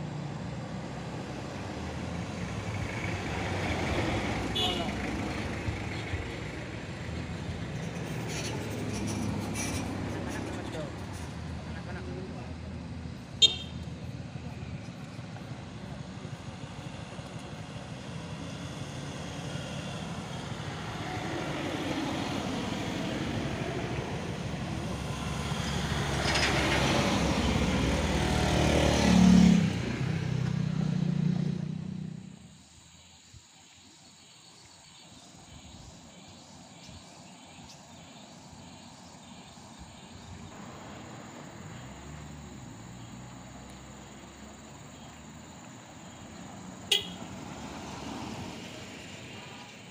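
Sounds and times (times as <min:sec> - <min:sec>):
vehicles passing: 0:00.0 - 0:33.2, 0:33.8 - 0:49.9
faint roadside background: 0:00.0 - 0:49.9.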